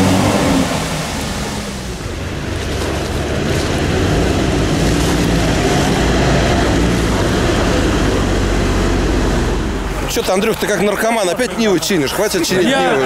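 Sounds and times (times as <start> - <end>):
water churning and splashing: 0.0 - 12.1
off-road vehicle engine running: 0.0 - 12.4.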